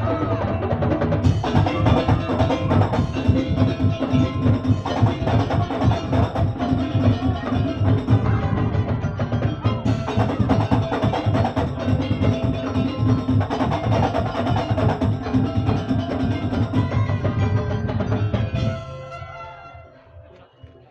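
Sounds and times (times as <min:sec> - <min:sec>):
wooden slit drums: 0:00.0 - 0:17.3
melody over drums: 0:00.0 - 0:19.8
percussion ensemble playing: 0:00.0 - 0:20.2.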